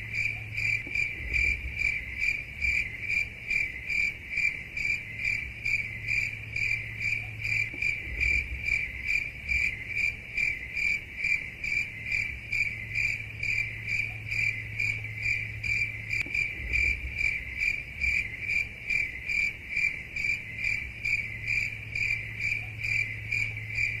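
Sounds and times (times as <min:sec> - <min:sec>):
cricket chirping: 0:00.0 - 0:24.0
faint low hum: 0:00.0 - 0:24.0.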